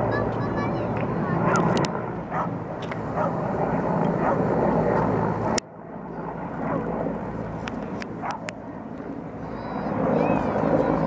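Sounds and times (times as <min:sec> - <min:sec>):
distant helicopter drone: 0:00.0 - 0:11.0.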